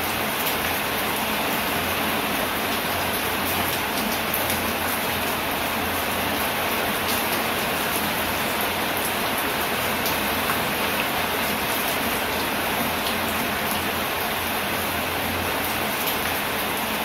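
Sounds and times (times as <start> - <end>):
steady rain hissing: 0.0 - 17.0.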